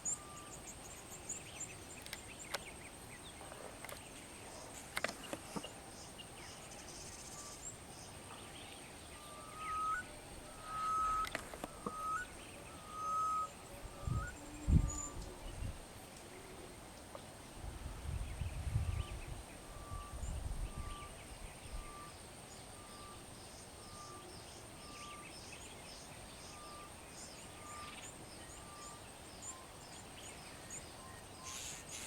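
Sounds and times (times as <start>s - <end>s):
birds chirping: 0.0s - 17.4s, 18.2s - 32.0s.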